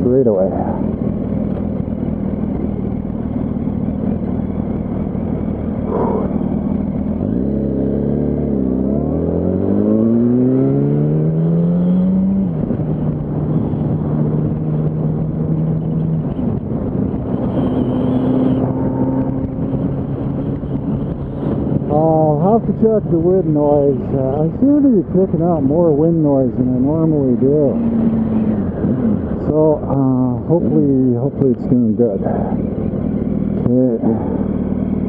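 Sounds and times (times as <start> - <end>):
wind rushing over microphone: 0.0 - 34.6
motorcycle engine accelerating: 0.6 - 35.0.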